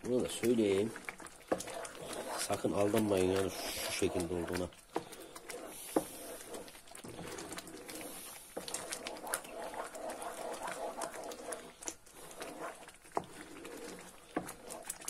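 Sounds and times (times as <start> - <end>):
thick mixture bubbling and popping: 0.0 - 15.0
wooden spoon stirring: 0.0 - 15.0.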